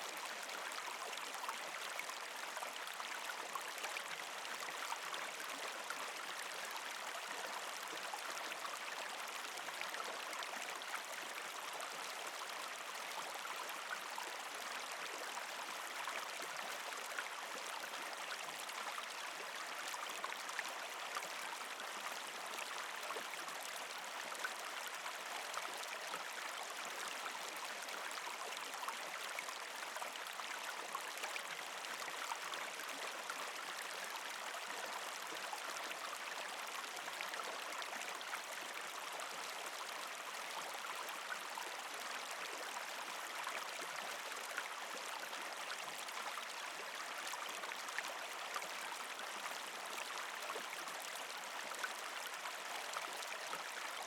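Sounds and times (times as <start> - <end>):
creek water flowing over rocks: 0.0 - 54.0.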